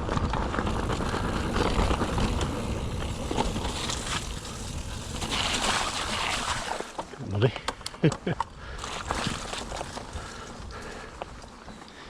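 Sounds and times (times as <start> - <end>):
bike rattling: 0.0 - 12.0
bike tyres rolling on trail: 0.0 - 12.0.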